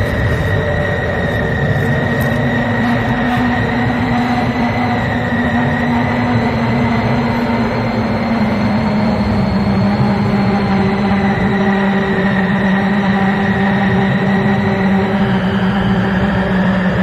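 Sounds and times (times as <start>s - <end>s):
eerie drone: 0.0s - 17.0s.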